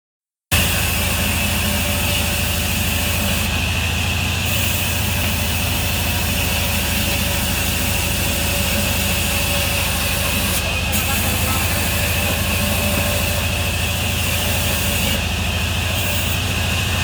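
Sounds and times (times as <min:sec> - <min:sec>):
saw machine hum and whine: 0:00.5 - 0:17.0.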